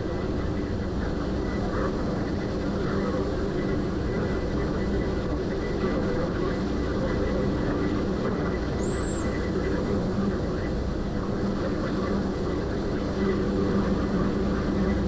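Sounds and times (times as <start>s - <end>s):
ferry engine droning: 0.0s - 15.0s.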